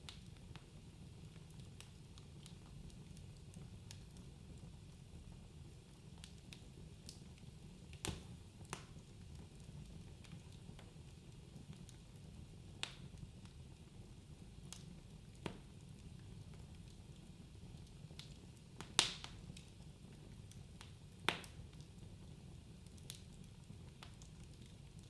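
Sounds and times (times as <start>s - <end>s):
fire popping and snapping: 0.0s - 25.0s.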